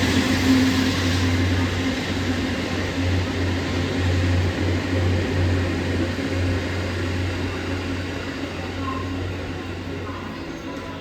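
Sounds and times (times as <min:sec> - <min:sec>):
train passing: 0:00.0 - 0:11.0.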